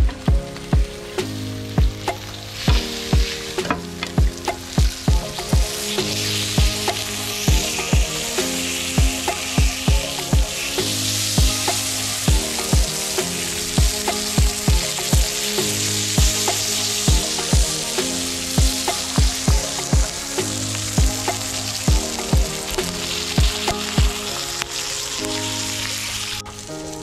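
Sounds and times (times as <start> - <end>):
music with thumping beat: 0.0 - 8.2, 9.0 - 10.6, 11.4 - 15.4, 16.2 - 24.2
steak sizzling on griddle pan: 0.0 - 27.0.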